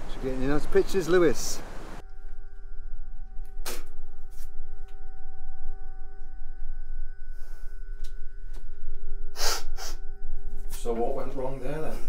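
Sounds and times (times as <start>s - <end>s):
low rumble: 2.0s - 12.0s
sustained drone of held tones: 2.0s - 12.0s.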